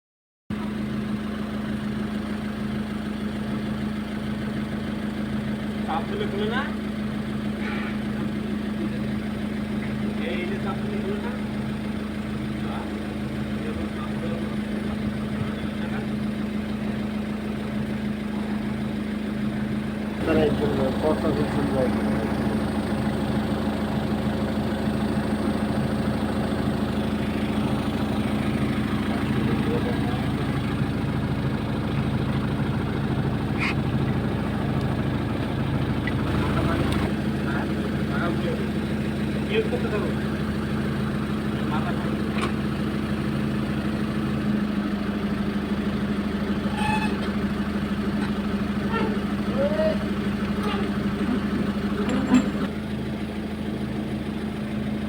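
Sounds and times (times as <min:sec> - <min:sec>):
excavator diesel engine running: 0:00.5 - 0:55.0.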